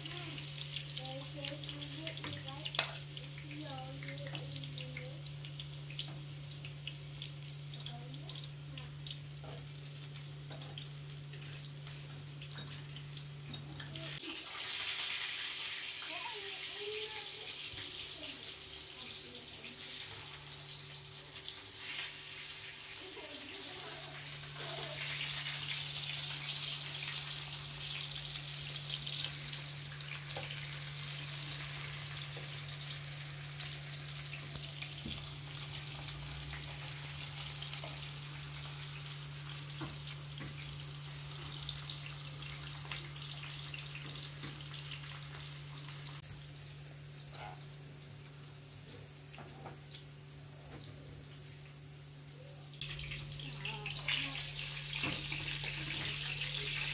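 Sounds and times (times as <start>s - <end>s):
vegetables sizzling in oil: 0.0s - 56.9s.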